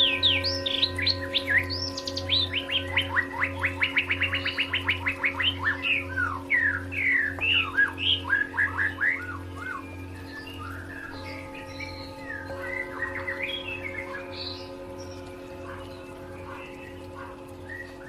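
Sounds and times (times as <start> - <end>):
bird singing whistled song: 0.0 - 18.0
soft background music: 0.0 - 18.0.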